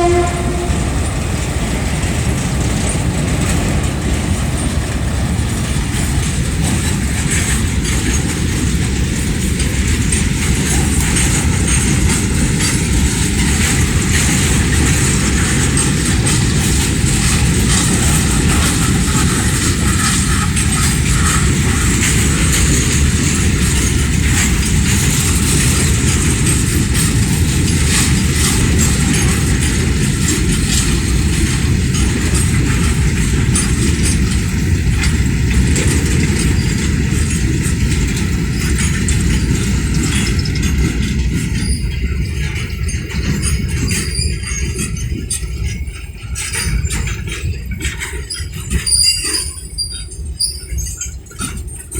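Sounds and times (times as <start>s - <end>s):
train wheels on track: 0.0s - 51.9s.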